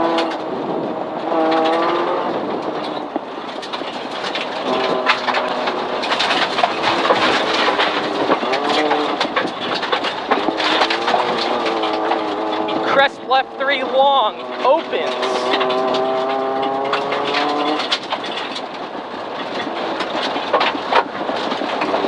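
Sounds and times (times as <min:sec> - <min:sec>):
rally car engine at speed: 0:00.0 - 0:22.0
tyres roaring on gravel: 0:00.0 - 0:22.0
gravel striking the car: 0:01.2 - 0:12.9, 0:15.4 - 0:22.0.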